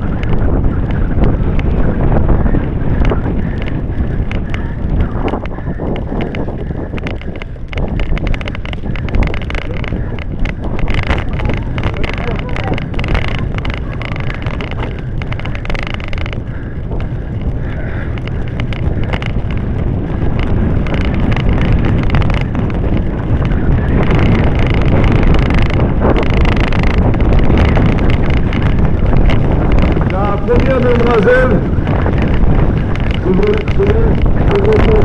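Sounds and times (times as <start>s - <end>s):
bike rattling on rough track: 0.0s - 35.0s
wind rushing over microphone: 0.0s - 35.0s.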